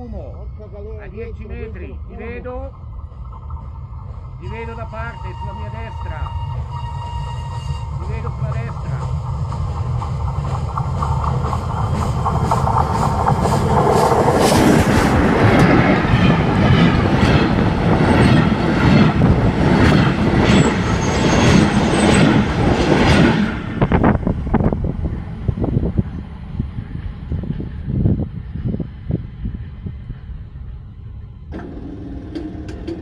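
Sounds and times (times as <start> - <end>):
steam train passing: 0.0 - 33.0.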